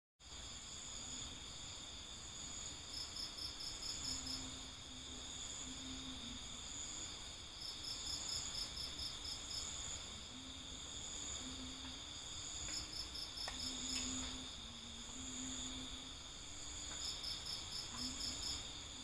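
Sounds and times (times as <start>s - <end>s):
insect high-pitched trill: 0.3s - 19.0s
quick insect chirps: 0.3s - 19.0s.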